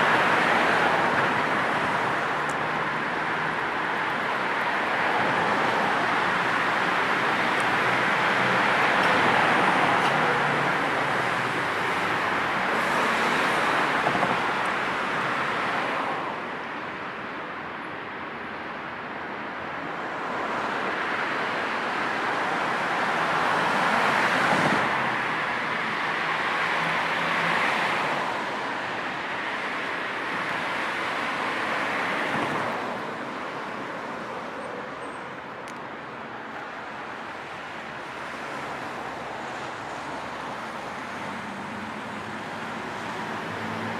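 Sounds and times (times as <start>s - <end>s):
road traffic passing: 0.0s - 43.9s.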